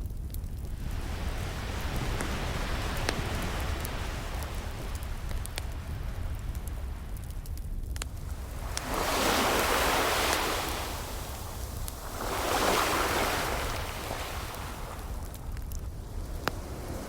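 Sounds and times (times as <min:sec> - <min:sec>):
wood fire crackling: 0:00.0 - 0:17.0
ocean waves washing in: 0:00.7 - 0:07.2, 0:08.1 - 0:17.0.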